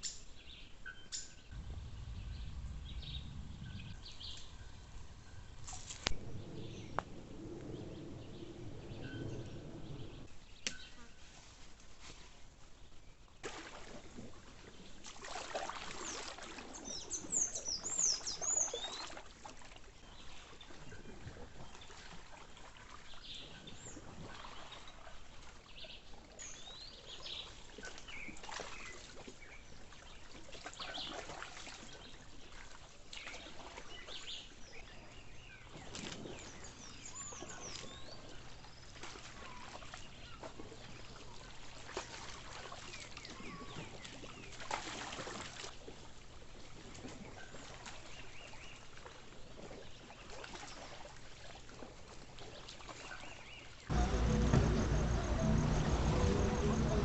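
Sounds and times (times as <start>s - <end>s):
water splashing and trickling: 1.0s - 57.0s.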